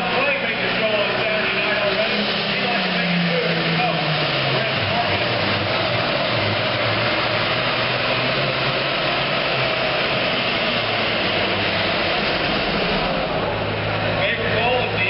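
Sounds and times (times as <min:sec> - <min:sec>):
loud tractor diesel engine: 0:00.0 - 0:15.0.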